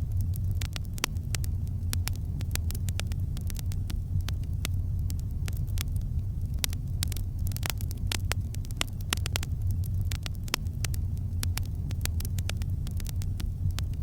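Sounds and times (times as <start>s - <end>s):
campfire crackling: 0.0s - 14.0s
low fire rumble: 0.0s - 14.0s.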